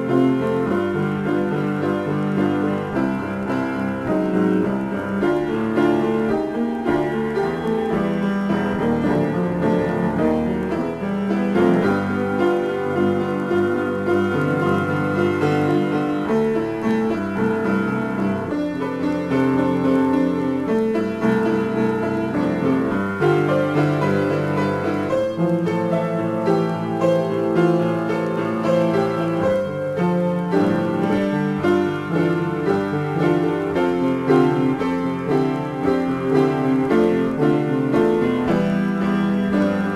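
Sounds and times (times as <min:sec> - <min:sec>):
solo piano improvisation: 0:00.0 - 0:39.9.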